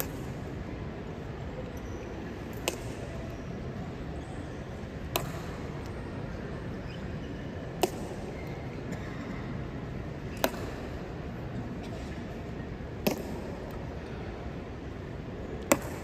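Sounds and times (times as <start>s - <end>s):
steady hall hum: 0.0s - 16.0s.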